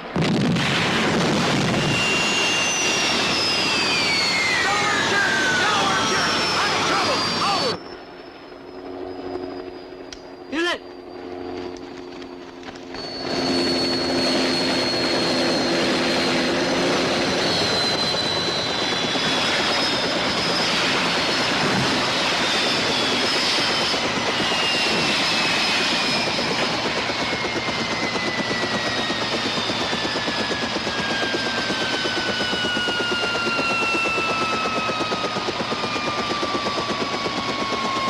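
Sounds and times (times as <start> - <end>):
aircraft turbine engine whine: 0.0 - 38.0.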